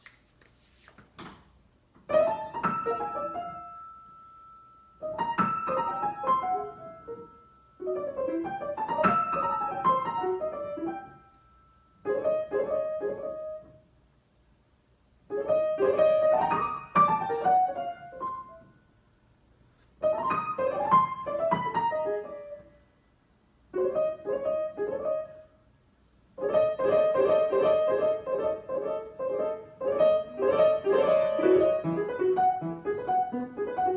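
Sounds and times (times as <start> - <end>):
solo piano improvisation: 2.0 - 13.9, 15.3 - 18.8, 20.0 - 22.9, 23.7 - 25.6, 26.4 - 33.9.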